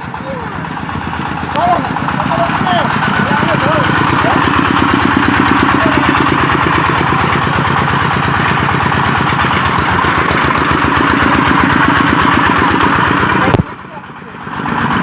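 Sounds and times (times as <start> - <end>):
engine firing pulses: 0.0 - 15.0.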